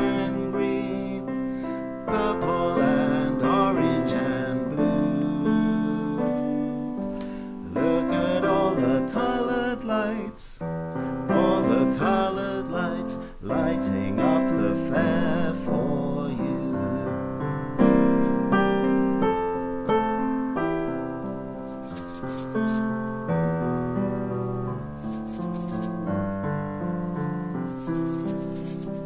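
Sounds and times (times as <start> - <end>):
keyboard music with piano notes: 0.0 - 29.0.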